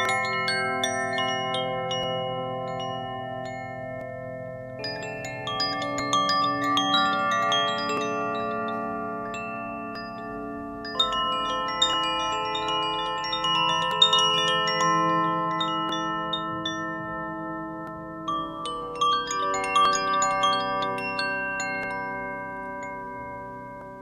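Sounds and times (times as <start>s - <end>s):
chimes tinkling: 0.0s - 24.0s
low steady ringing tones: 0.0s - 24.0s.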